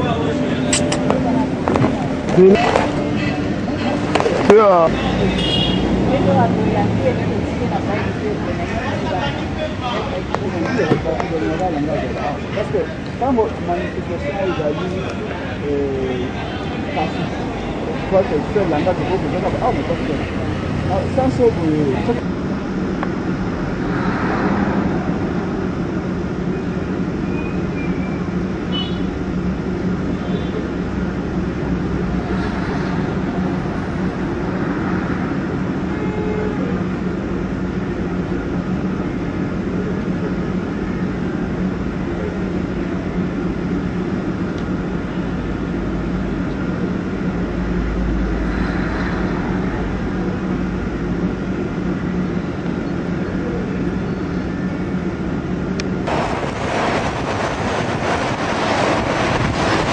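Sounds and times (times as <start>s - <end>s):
vehicle engine rumble: 0.0s - 59.9s
wind and road noise: 0.0s - 59.9s.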